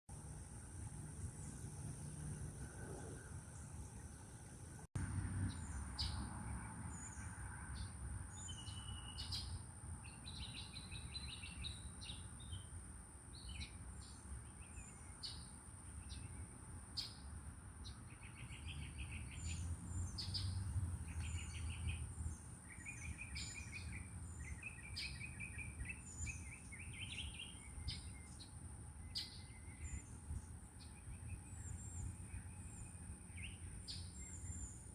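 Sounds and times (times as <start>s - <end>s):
birds chirping and trilling: 0.8s - 34.9s.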